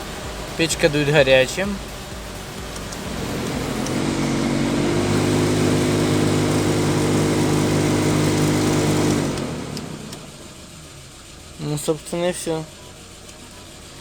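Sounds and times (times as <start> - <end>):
heater blower fan humming: 0.0 - 14.0.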